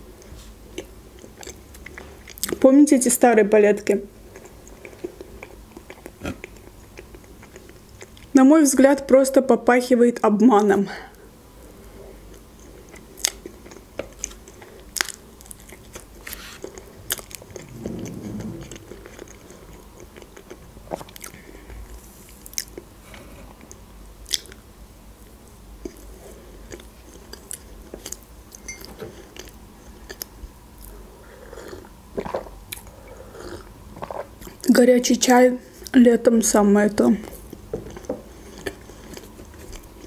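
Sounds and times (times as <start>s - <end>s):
chewing soft cake: 0.0s - 2.6s, 4.2s - 8.3s, 11.1s - 34.8s, 37.2s - 40.0s.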